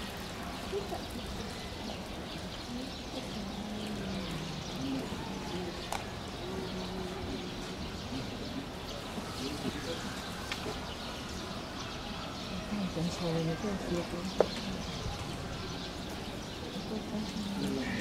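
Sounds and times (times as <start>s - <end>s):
distant people talking: 0.0s - 18.0s.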